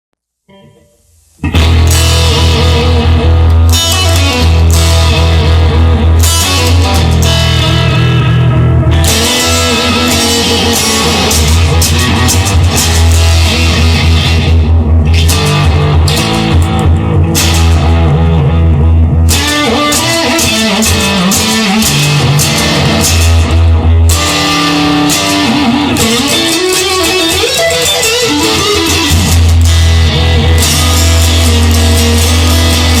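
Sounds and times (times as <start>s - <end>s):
electric guitar: 0.4s - 33.0s
bass guitar: 0.5s - 33.0s.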